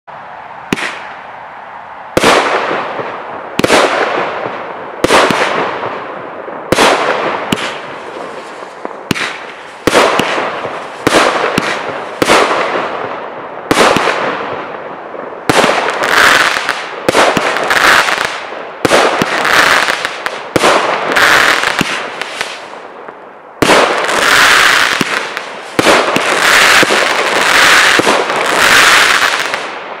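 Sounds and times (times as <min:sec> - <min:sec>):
firework crackling: 0:00.7 - 0:01.2, 0:02.1 - 0:30.0
firework shots with hiss: 0:00.7 - 0:01.2, 0:02.1 - 0:06.0, 0:06.7 - 0:30.0.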